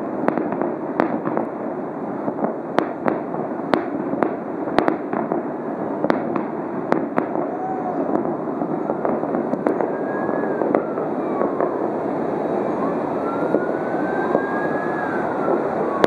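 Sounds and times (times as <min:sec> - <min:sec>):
distant fireworks popping: 0:00.0 - 0:16.0
steady background noise: 0:00.0 - 0:16.0.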